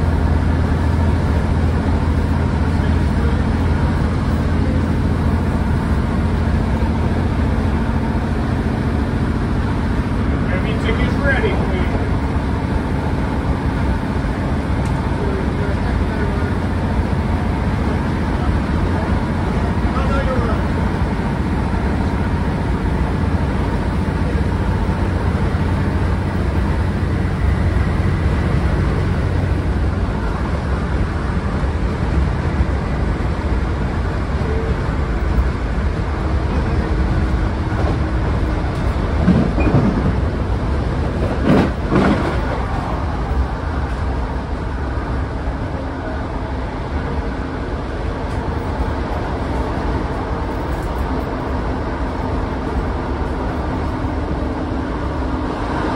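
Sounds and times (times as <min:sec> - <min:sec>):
train diesel engine rumble: 0:00.0 - 0:55.9
train wheels on rails: 0:00.0 - 0:55.9.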